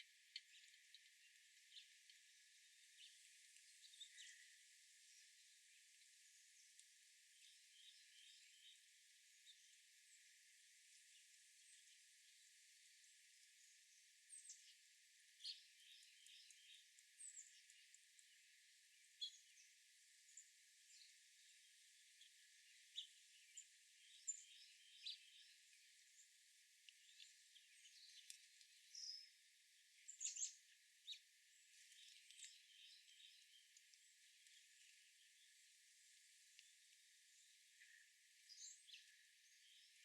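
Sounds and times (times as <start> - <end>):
small birds chirping: 0.0 - 40.0
soft outdoor hiss: 0.0 - 40.0.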